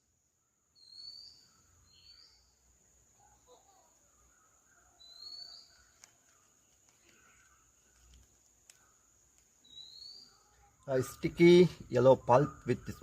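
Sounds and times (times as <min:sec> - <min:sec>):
bird chirps: 0:00.3 - 0:13.0.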